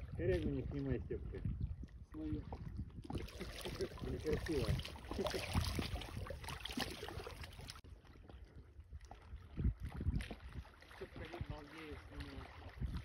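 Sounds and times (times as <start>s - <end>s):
small waves lapping: 0.0s - 13.0s.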